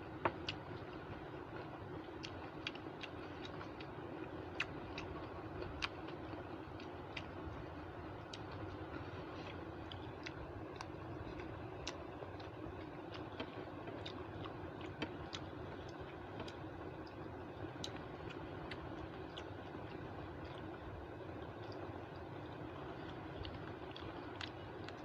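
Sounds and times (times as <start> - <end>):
steady low hum: 0.0 - 25.0
chewing: 0.2 - 25.0.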